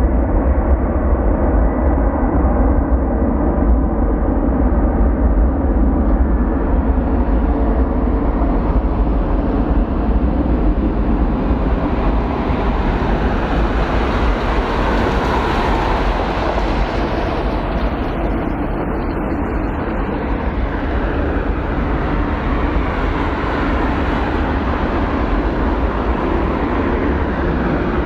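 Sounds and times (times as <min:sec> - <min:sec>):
jet engines roaring: 0:05.4 - 0:28.0.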